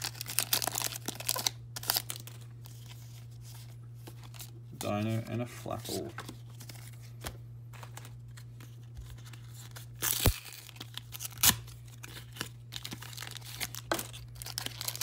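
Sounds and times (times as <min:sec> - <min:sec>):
foil wrapper crinkling and tearing: 0:00.0 - 0:05.3, 0:07.8 - 0:15.0.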